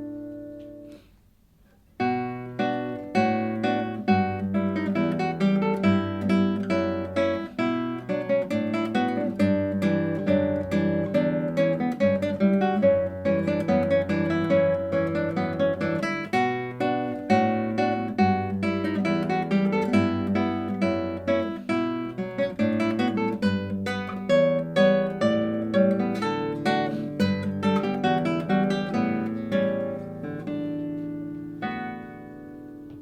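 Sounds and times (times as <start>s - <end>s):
classical guitar playing: 0.0s - 33.0s.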